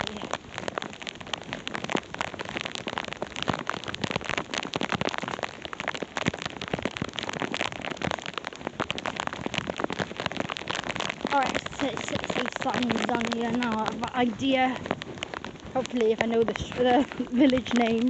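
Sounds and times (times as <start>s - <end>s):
heavy rain patter: 0.0s - 18.0s.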